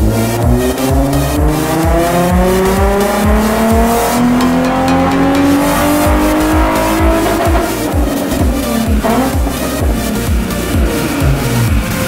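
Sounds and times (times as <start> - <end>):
car engine revving under load: 0.0 - 12.0
music with steady beat: 0.0 - 12.0.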